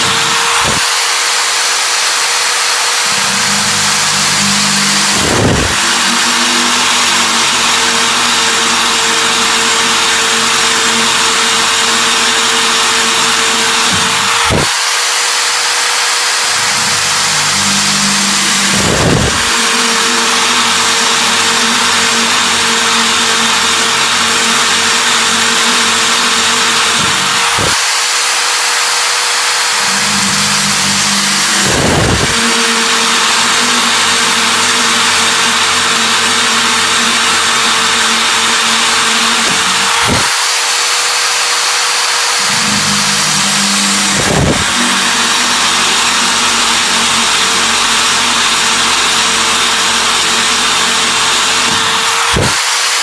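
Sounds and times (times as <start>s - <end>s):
power drill grinding hiss: 0.0s - 53.0s.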